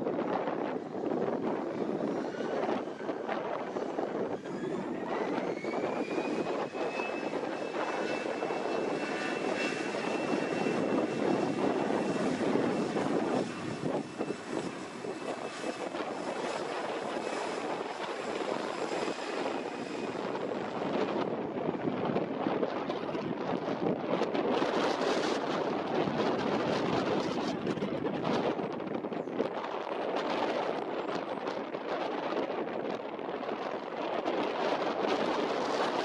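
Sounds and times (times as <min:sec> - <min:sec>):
turbine engine whine: 0:00.0 - 0:36.0
wind buffeting microphone: 0:00.0 - 0:36.0.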